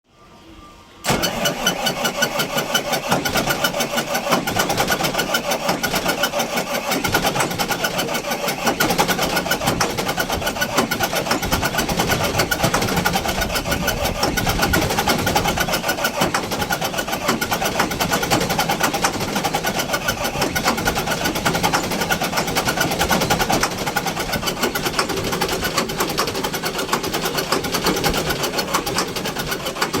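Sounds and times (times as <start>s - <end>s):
old engine starting and running: 1.0s - 30.0s.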